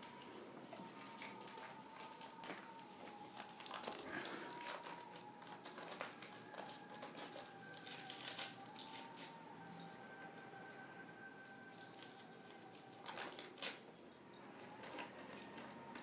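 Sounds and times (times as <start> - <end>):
wrapper crinkling: 0.0 - 9.4, 11.6 - 16.0.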